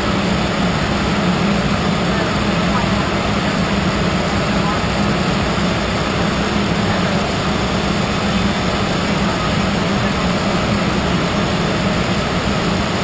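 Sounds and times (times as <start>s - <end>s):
constant low hum: 0.0s - 13.0s
jet engine and airflow rush: 0.0s - 13.0s.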